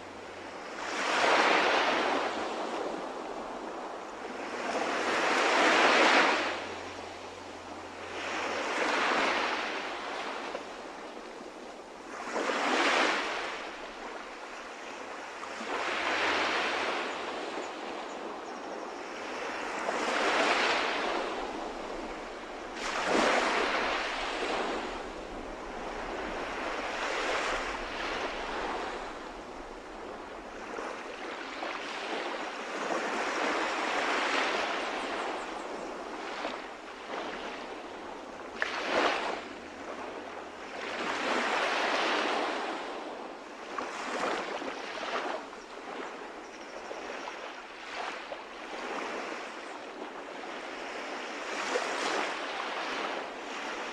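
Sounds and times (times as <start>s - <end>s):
sea waves breaking on shore: 0.0s - 53.9s.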